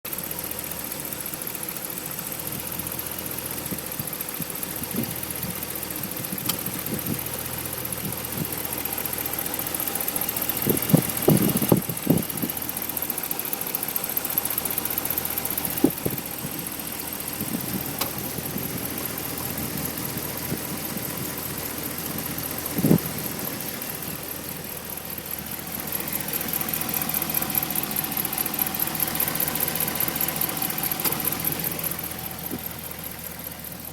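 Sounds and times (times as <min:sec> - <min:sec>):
fast even engine ticking: 0:00.0 - 0:33.9
truck engine idling: 0:00.1 - 0:33.9.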